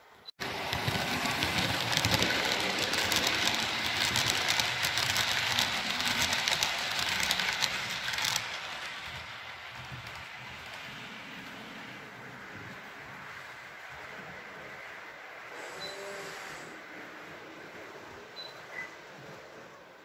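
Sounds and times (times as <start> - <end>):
model train wheels clicking on rails: 0.4 - 17.3.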